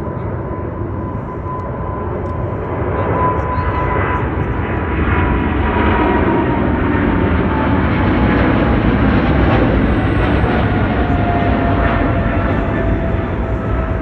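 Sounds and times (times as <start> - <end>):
jet airliner roaring past: 0.0 - 14.0.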